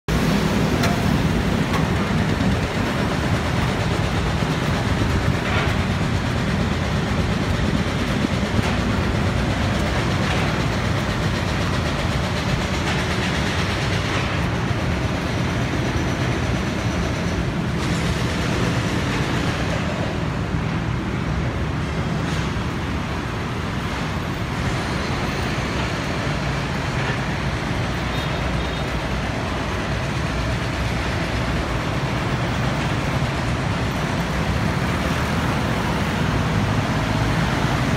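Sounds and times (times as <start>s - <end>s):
road traffic rumble: 0.0s - 37.9s.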